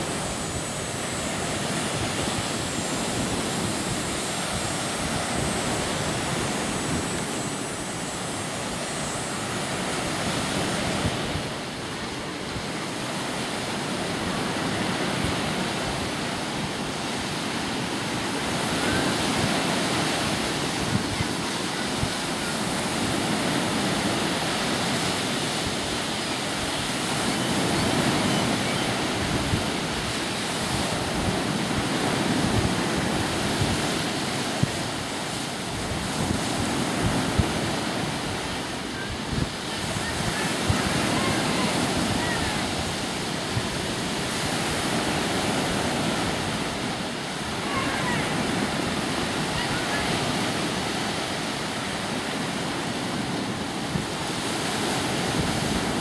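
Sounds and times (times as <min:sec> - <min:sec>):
lake waves breaking on shore: 0:00.0 - 0:56.0
wind on microphone: 0:00.0 - 0:56.0.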